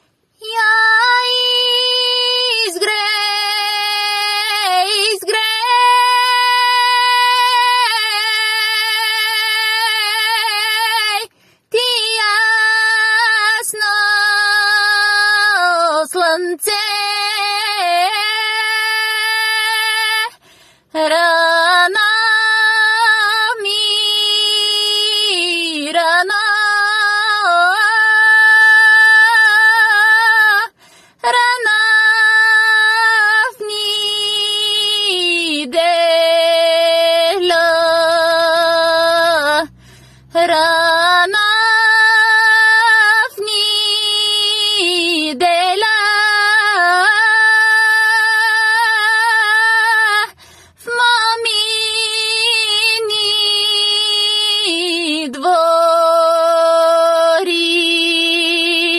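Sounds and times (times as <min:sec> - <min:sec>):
woman singing folk song: 0:00.4 - 0:58.9.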